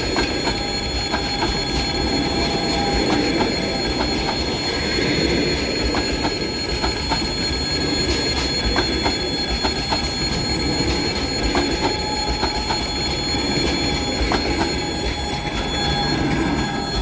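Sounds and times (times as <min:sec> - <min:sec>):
high-pitched tone: 0:00.0 - 0:17.0
train wheels rumbling on rails: 0:00.0 - 0:17.0.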